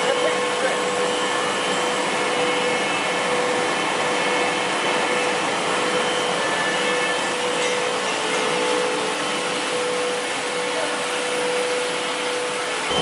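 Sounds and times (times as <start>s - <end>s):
machine noise with humming tone: 0.0s - 13.0s.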